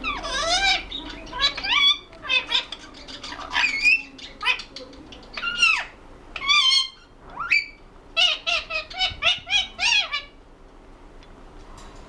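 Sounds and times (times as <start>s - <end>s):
parakeet calling: 0.0s - 10.4s.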